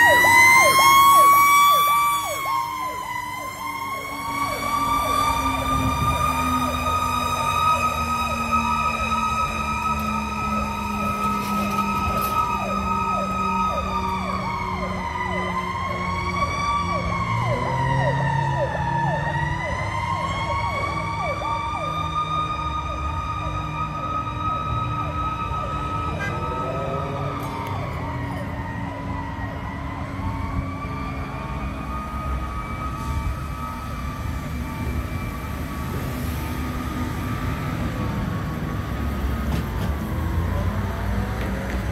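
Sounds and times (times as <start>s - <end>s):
fast yelping siren: 0.0s - 37.4s
truck engines rumbling: 0.0s - 41.9s
wailing siren: 0.0s - 41.9s.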